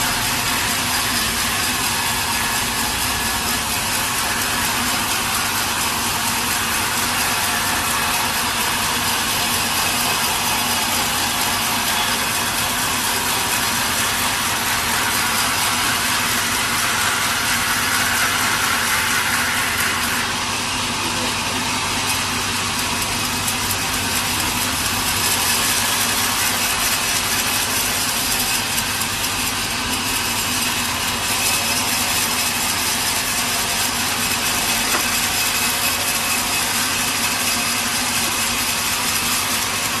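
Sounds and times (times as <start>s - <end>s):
saw cutting wood: 0.0s - 40.0s
sawmill machinery running: 0.0s - 40.0s.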